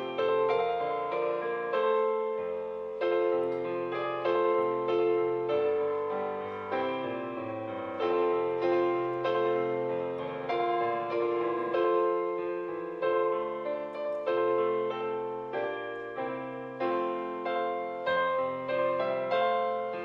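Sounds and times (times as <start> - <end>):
slow piano hymn: 0.0 - 20.0.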